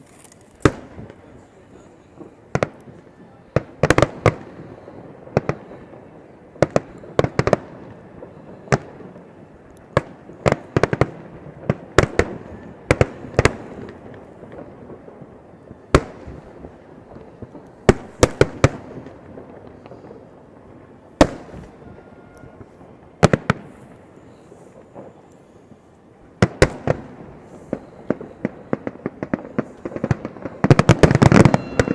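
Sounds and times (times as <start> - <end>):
fireworks bangs: 0.0 - 31.9.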